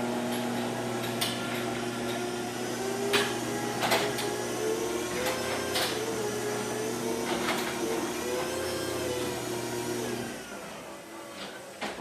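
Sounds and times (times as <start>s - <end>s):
garage door motor hum: 0.0s - 12.0s.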